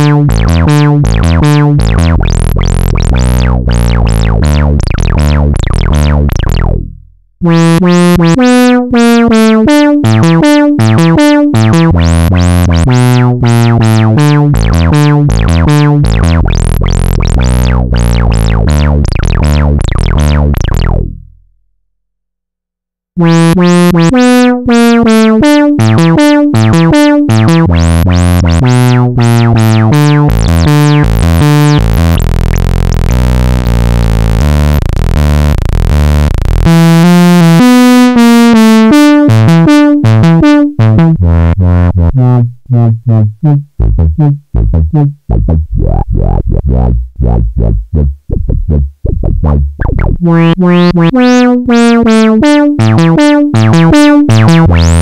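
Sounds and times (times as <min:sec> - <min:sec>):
buzzy synth sequence: 0:00.0 - 0:21.4, 0:23.2 - 0:55.0.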